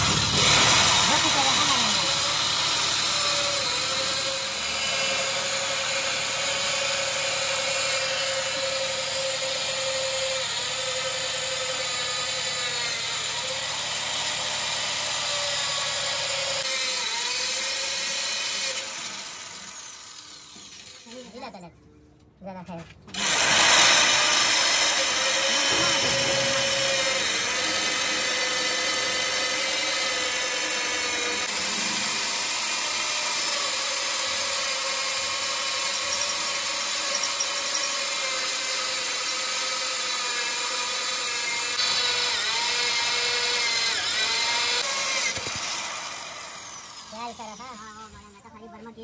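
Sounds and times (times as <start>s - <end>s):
electric power tool whining: 0.0s - 21.3s, 23.1s - 48.4s.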